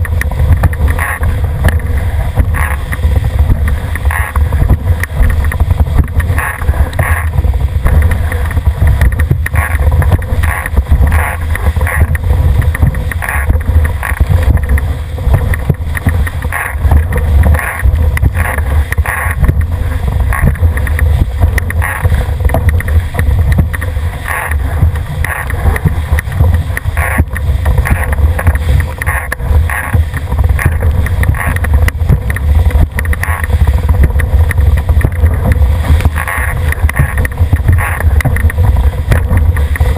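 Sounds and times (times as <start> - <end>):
water splashing against hull: 0.0 - 39.9
wind buffeting microphone: 0.0 - 39.9.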